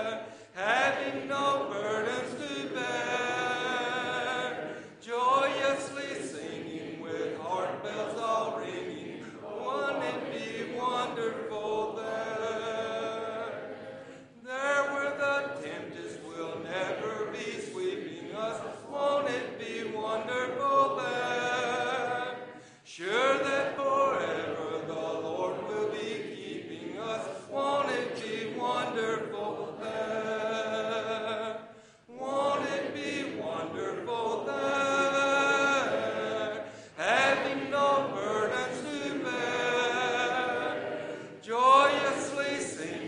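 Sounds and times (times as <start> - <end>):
congregation singing a hymn: 0.0 - 43.0.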